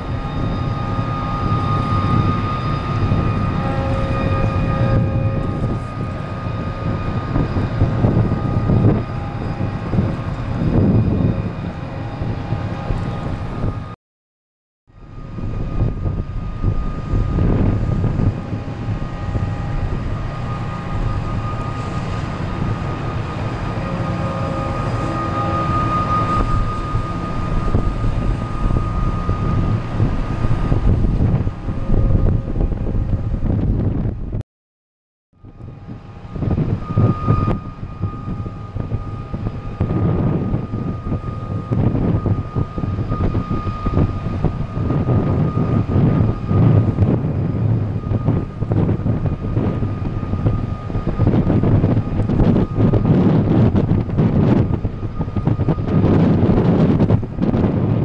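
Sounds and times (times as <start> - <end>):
marine diesel engines rumbling: 0.0 - 14.0, 15.1 - 34.4, 35.4 - 58.0
steady whining tones: 0.0 - 14.0, 14.9 - 34.4, 35.4 - 58.0
wind buffeting microphone: 0.0 - 14.0, 15.0 - 34.4, 35.4 - 58.0.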